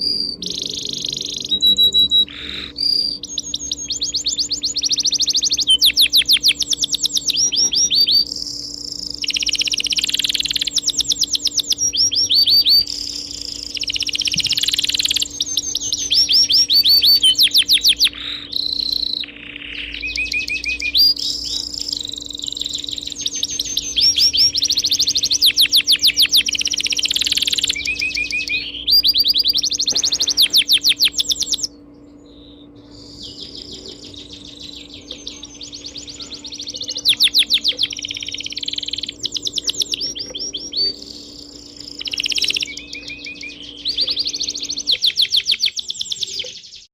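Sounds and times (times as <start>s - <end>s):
songbirds trilling: 0.0s - 46.9s
steady low hum: 0.0s - 46.9s.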